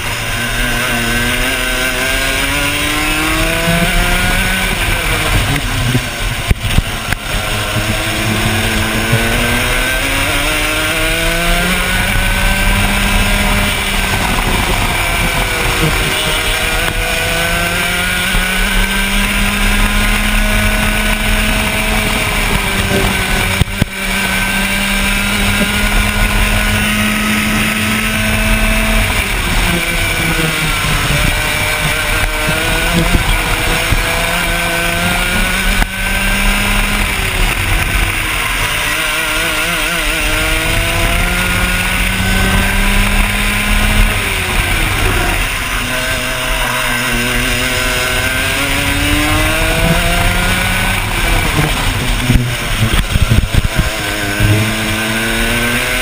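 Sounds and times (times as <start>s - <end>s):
kart two-stroke engine racing: 0.0s - 56.0s.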